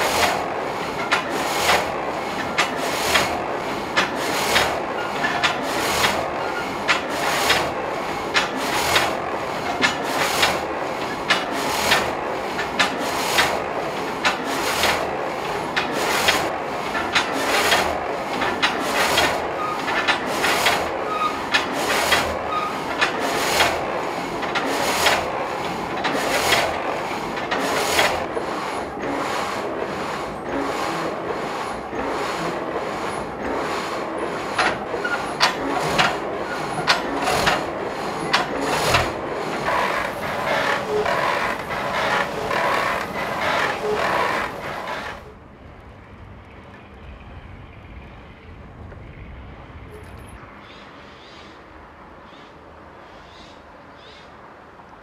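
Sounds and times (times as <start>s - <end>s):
gang saw rasping through log: 0.0s - 45.3s.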